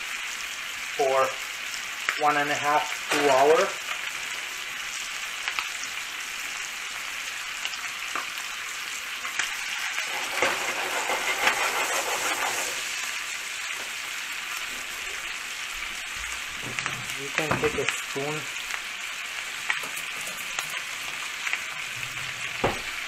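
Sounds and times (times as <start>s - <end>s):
meat sizzling in a frying pan: 0.0s - 23.0s.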